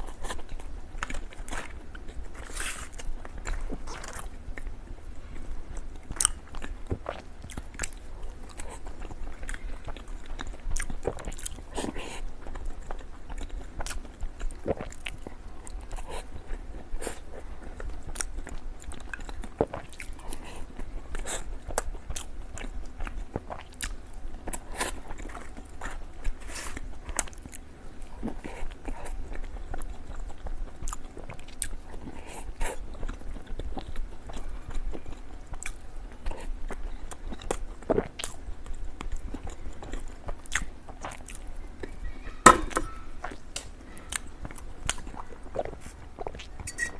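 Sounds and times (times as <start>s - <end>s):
wet chewing with crunches: 0.0s - 46.9s.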